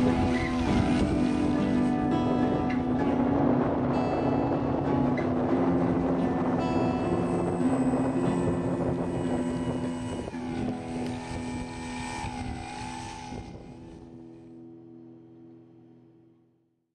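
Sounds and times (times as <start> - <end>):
electric motor and propeller whining: 0.0 - 14.9.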